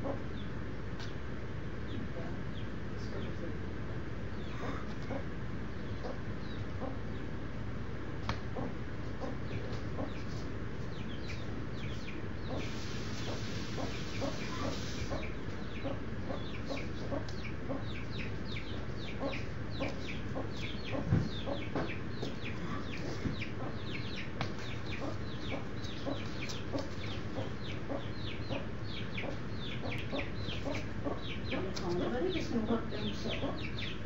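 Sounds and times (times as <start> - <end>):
baby chicks peeping: 0.0 - 34.0.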